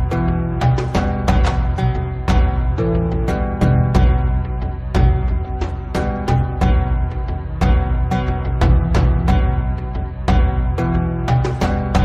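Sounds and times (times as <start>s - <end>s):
music with deep bass: 0.0s - 12.0s.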